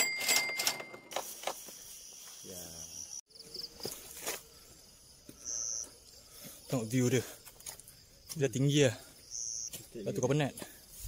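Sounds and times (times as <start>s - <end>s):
insects chirping: 0.8s - 11.0s.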